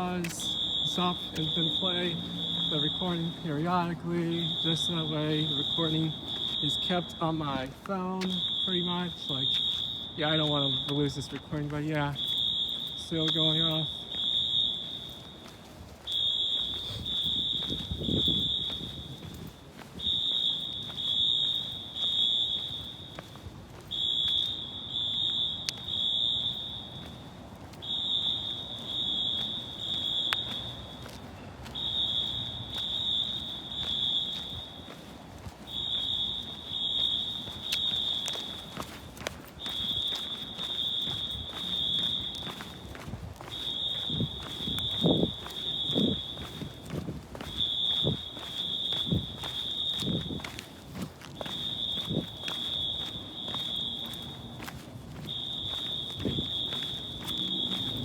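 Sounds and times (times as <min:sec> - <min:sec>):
fire alarm horn blasts: 0:00.0 - 0:58.0.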